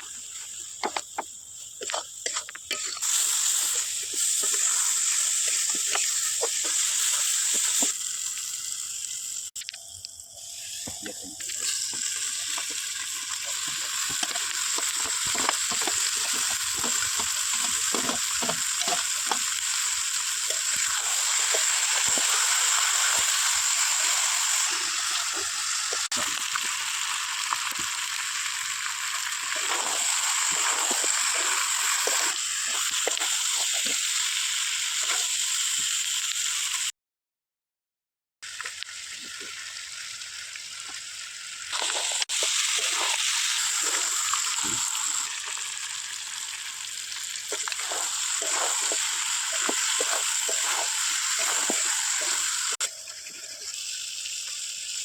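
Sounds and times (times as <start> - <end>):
food sizzling in hot oil: 0.0 - 36.9, 38.4 - 55.0.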